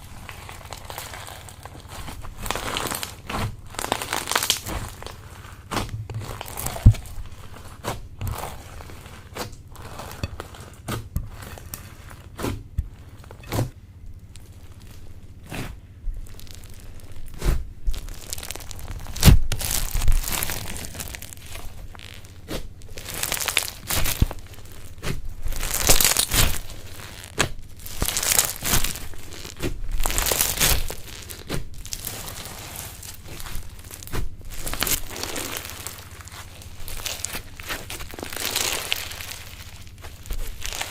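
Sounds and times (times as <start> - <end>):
slime crackling and popping: 0.0 - 40.9.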